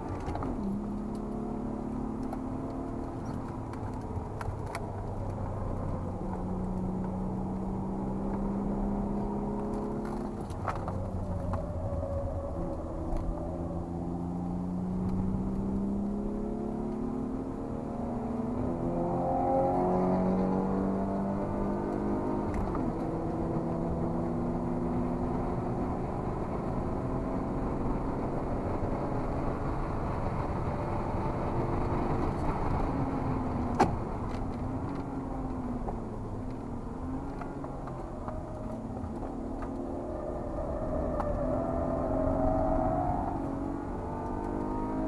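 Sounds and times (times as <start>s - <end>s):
car engine revving from inside: 0.0s - 45.0s.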